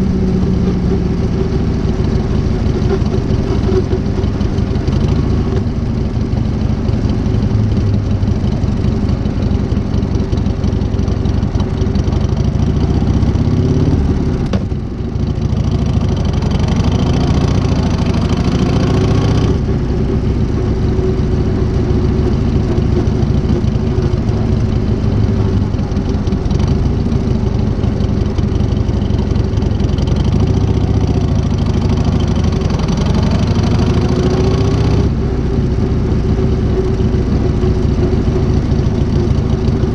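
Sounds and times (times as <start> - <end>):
motorcycle engine idling: 0.0 - 18.2, 19.5 - 34.2, 35.1 - 39.9.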